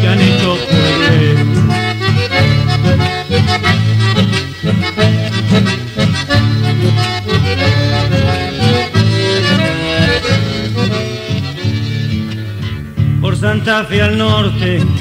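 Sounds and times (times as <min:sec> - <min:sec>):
accordion playing folk tune: 0:00.0 - 0:13.1, 0:14.3 - 0:15.0
rhythmic low accompaniment: 0:00.0 - 0:15.0.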